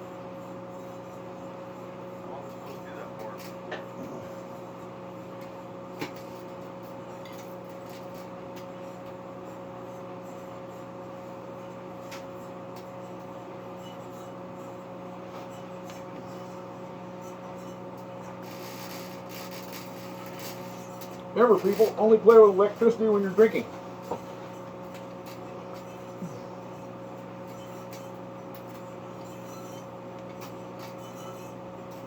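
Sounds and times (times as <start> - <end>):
microwave oven humming: 0.0 - 32.0.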